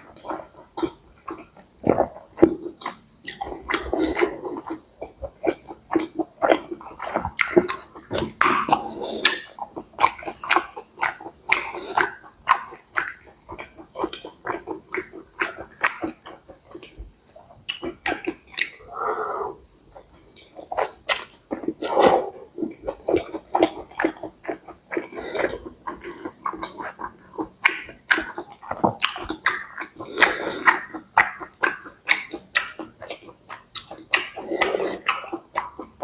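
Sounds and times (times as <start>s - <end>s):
wet chewing and lip-smacking: 0.0s - 36.0s.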